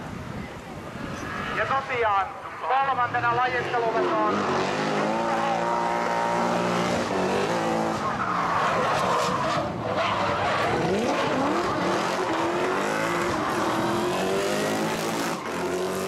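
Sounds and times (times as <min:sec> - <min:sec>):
tires skidding: 0:00.9 - 0:16.0
car engine revving: 0:03.0 - 0:16.0.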